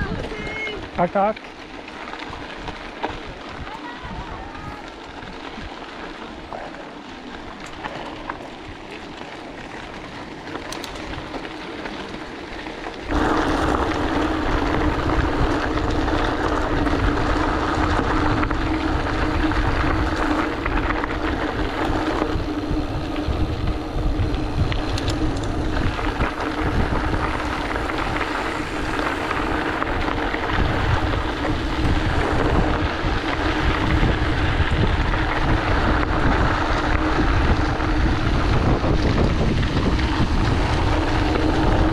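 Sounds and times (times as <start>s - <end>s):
wind buffeting microphone: 0.0s - 6.6s, 9.6s - 41.9s
tyres crunching on gravel: 0.0s - 41.9s
steady hum: 4.8s - 41.9s.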